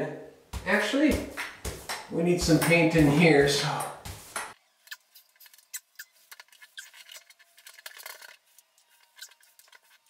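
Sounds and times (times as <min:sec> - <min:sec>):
paint roller ticks and scratches: 0:00.7 - 0:10.0.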